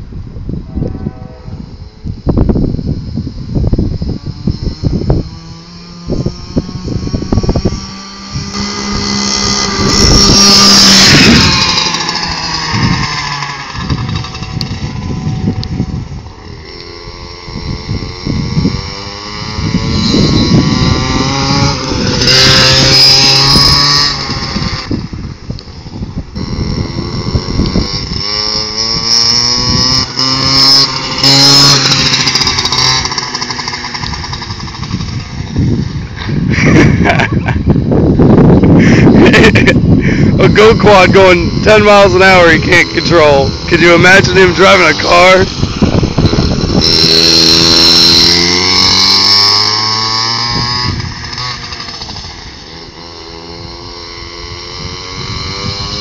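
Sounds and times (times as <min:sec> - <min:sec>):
small engine revving past: 0:00.4 - 0:56.0.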